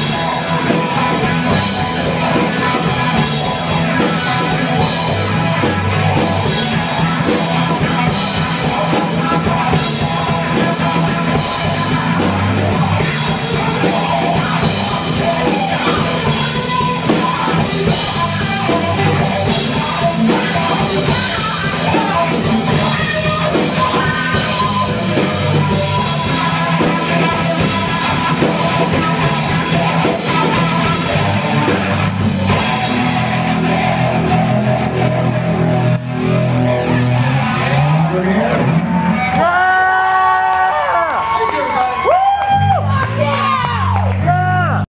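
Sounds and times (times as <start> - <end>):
drum kit with cymbals: 0.0 - 36.4
electric guitar: 0.0 - 44.8
bass guitar: 0.0 - 44.9.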